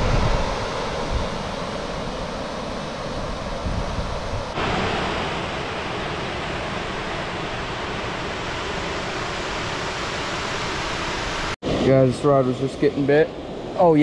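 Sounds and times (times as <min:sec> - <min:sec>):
water rushing over a dam: 0:00.0 - 0:13.0.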